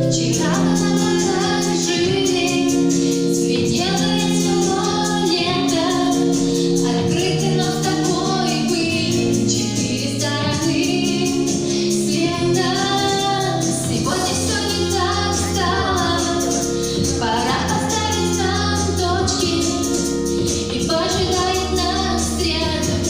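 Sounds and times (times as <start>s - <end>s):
woman singing: 0.0s - 23.0s.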